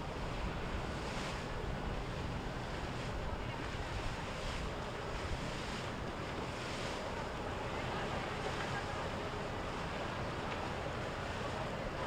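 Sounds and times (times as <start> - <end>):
waves washing: 0.0 - 12.0.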